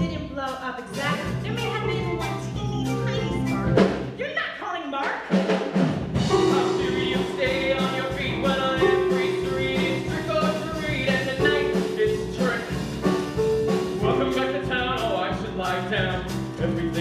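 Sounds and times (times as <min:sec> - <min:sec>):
rock band music: 0:00.0 - 0:04.2, 0:05.8 - 0:17.0.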